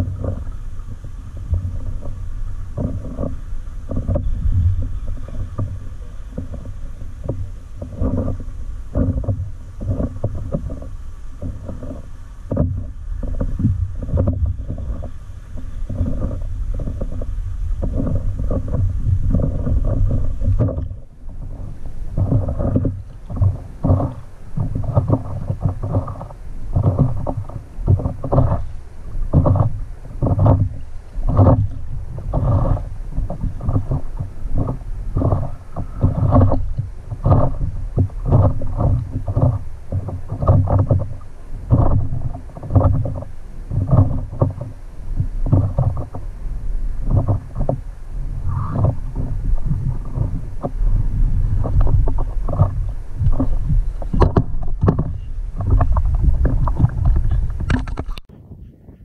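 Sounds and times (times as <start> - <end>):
water slapping against paddleboard: 0.0 - 58.4
steady low rumble: 0.0 - 59.0.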